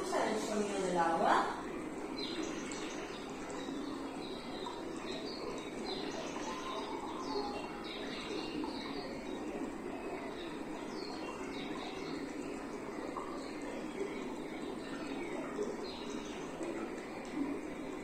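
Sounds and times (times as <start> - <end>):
birds chirping: 0.0 - 18.0
running water: 0.0 - 18.0.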